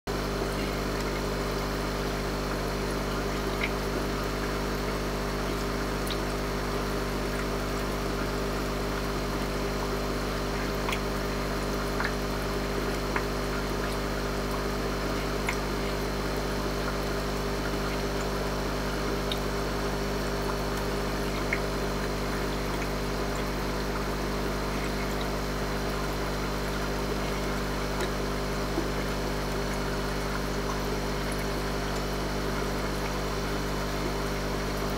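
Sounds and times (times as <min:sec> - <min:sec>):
aquarium filter hum: 0:00.1 - 0:34.9
sponge filter bubbling and trickling: 0:00.1 - 0:34.9.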